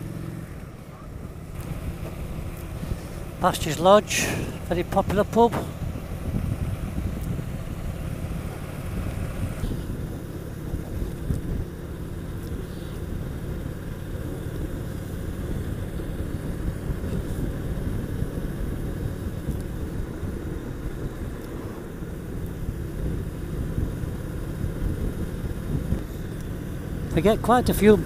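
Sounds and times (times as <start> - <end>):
motorcycle engine rumbling: 0.0 - 28.0
road and wind noise: 0.0 - 28.0.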